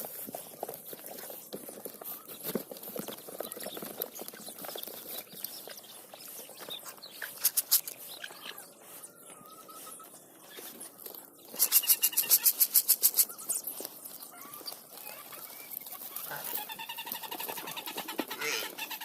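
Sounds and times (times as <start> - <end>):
animals tapping and scratching: 0.0 - 19.0.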